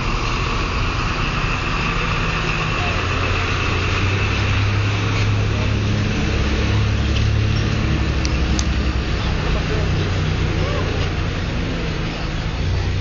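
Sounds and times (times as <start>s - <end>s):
street noise: 0.0s - 13.0s
vehicle engine humming: 0.0s - 13.0s.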